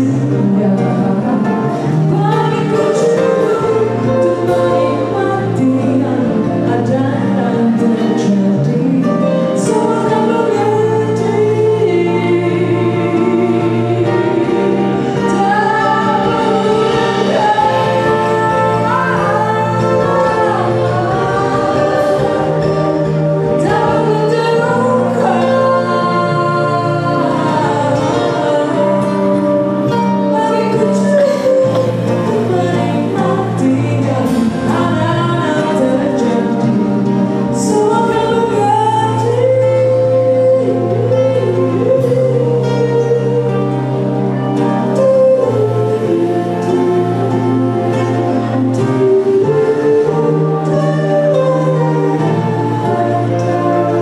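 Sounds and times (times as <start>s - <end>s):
acoustic guitar: 0.0s - 54.0s
woman singing: 0.0s - 54.0s.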